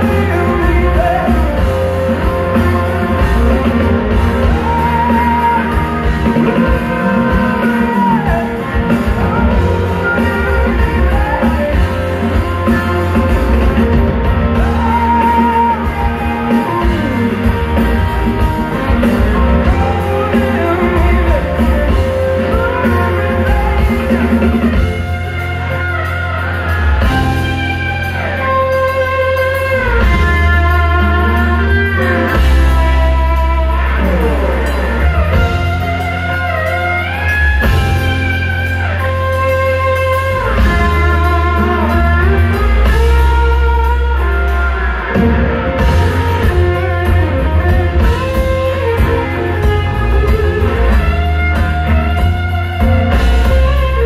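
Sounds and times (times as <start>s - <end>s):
bass: 0.0s - 54.0s
drums: 0.0s - 54.0s
electric guitar lead: 0.0s - 54.0s.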